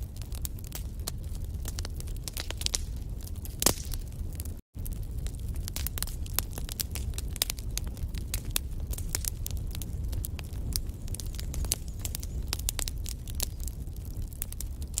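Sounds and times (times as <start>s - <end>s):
low rumble of flames: 0.0s - 15.0s
logs crackling and snapping: 0.1s - 15.0s.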